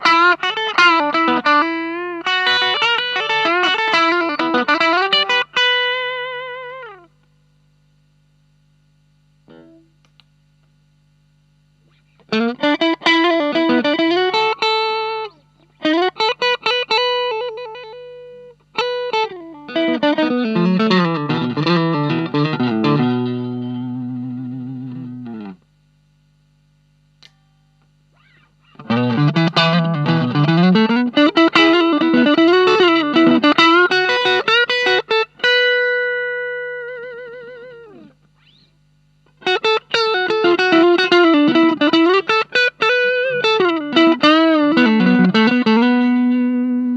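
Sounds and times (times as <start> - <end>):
overdriven electric guitar licks: 0.0 - 7.4, 9.4 - 10.4, 11.8 - 25.7, 27.2 - 46.9
amplifier hum: 0.0 - 46.9.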